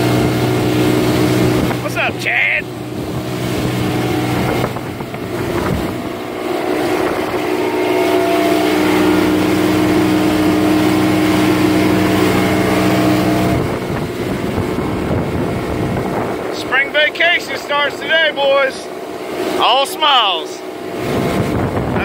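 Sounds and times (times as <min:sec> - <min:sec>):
outboard motor droning: 0:00.0 - 0:22.0
wind and water rushing: 0:00.0 - 0:22.0.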